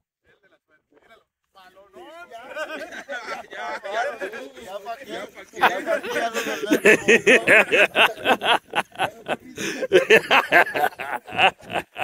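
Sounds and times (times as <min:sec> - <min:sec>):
men laughing heartily: 0:02.3 - 0:12.0.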